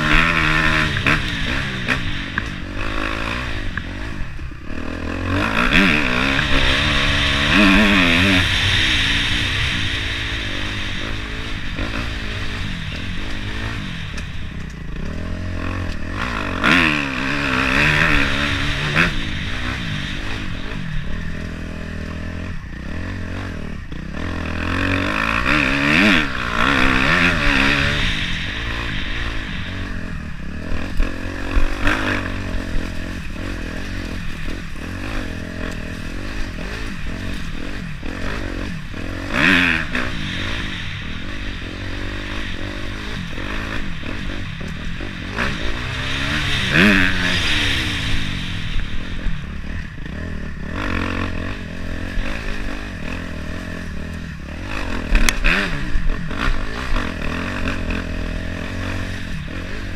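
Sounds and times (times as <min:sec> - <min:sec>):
bike rattling over rough ground: 0:00.0 - 0:59.9
dirt bike engine revving: 0:00.0 - 0:59.9.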